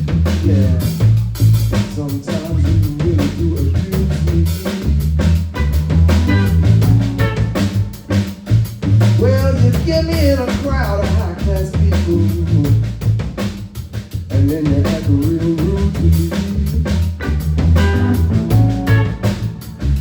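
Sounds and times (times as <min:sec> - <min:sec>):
blues band playing: 0:00.0 - 0:20.0
drum kit beat: 0:00.0 - 0:20.0
walking bass line: 0:00.0 - 0:20.0.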